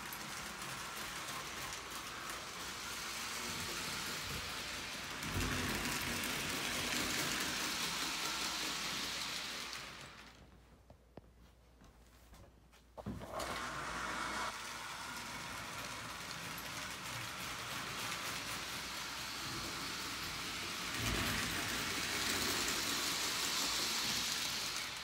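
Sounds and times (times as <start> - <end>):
toy train rattling on track: 0.0 - 10.4, 14.5 - 25.0.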